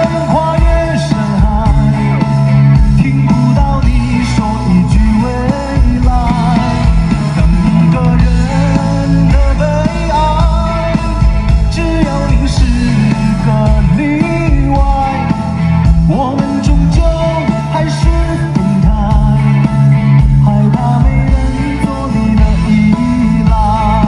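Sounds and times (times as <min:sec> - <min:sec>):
band playing: 0:00.0 - 0:24.0
man singing pop song: 0:00.0 - 0:24.0.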